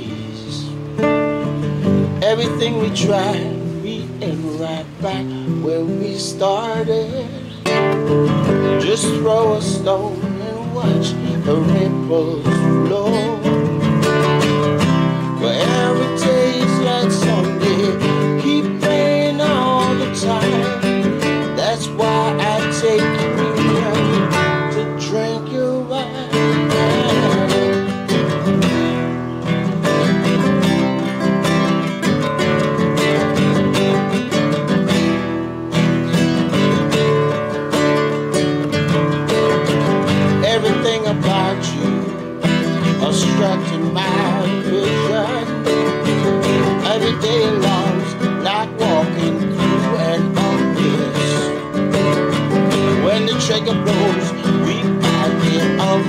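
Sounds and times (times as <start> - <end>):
man singing: 0.0 - 1.1, 2.0 - 29.0, 38.6 - 56.0
classical guitar strummed and picked: 0.0 - 56.0.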